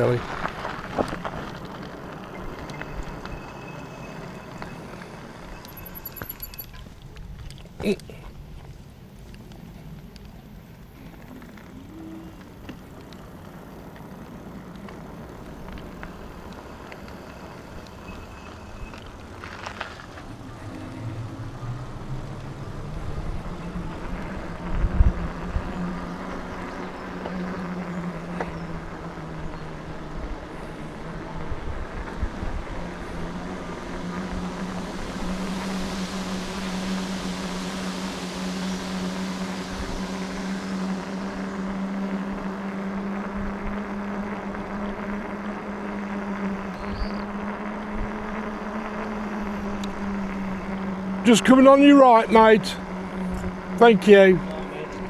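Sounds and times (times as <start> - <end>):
e-bike riding hum: 0.0 - 55.0.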